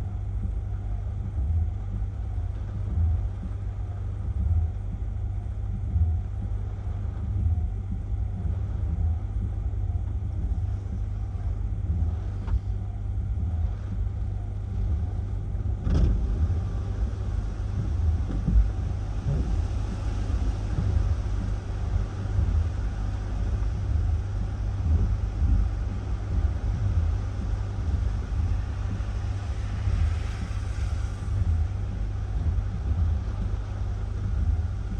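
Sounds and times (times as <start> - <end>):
wind buffeting microphone: 1.3 - 34.9.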